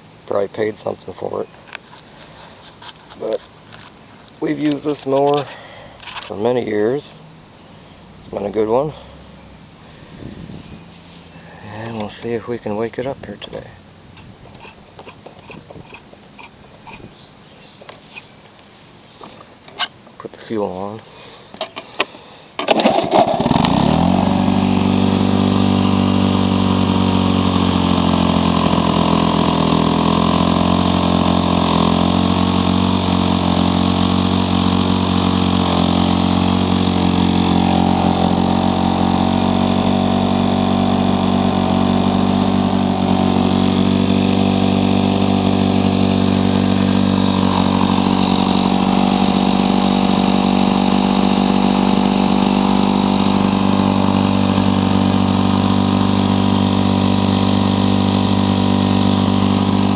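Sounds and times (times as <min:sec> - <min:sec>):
lawn mower engine starting: 0:00.0 - 0:17.2, 0:19.3 - 0:20.2, 0:20.8 - 0:59.9.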